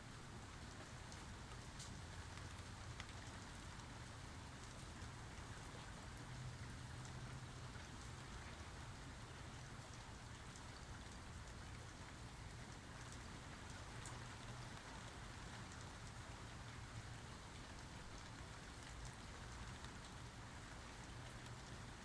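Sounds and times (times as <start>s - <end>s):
quiet rainfall: 0.0s - 22.0s.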